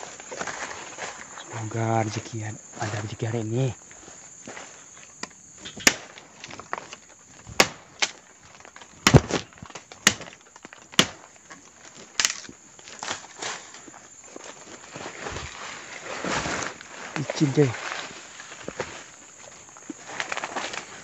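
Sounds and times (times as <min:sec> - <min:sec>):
footsteps cracking twigs: 0:00.0 - 0:21.0
rustling undergrowth: 0:00.0 - 0:21.0.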